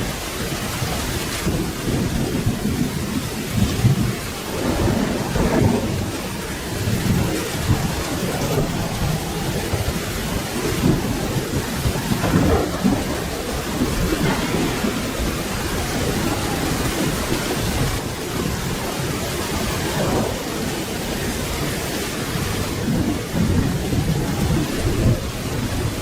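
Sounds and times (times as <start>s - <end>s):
rolling thunder rumbling: 0.0s - 26.0s
steady rain falling: 0.0s - 26.0s.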